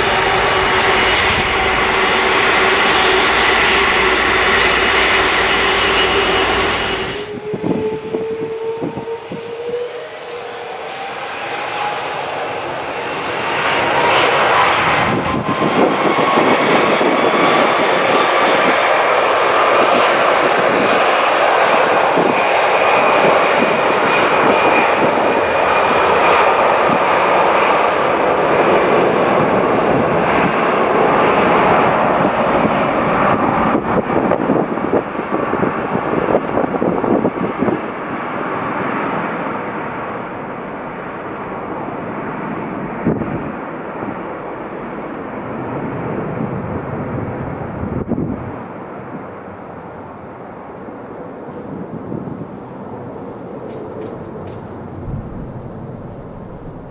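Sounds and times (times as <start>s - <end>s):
jet engines roaring: 0.0s - 56.9s.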